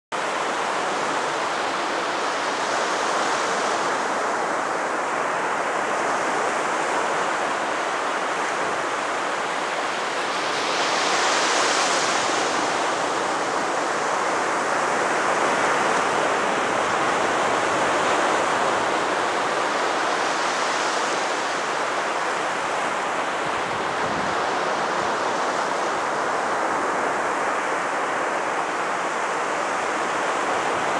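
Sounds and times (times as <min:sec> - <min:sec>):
small waves breaking on sand: 0:00.2 - 0:30.9.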